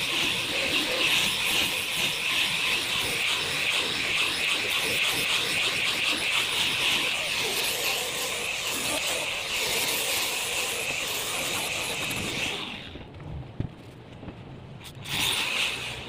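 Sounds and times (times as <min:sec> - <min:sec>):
angle grinder sanding wood: 0:00.0 - 0:13.0, 0:14.8 - 0:16.0.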